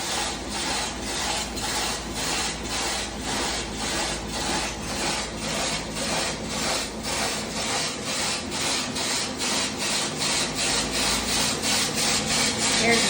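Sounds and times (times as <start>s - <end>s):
washing machine rhythmic scraping: 0.0s - 13.0s.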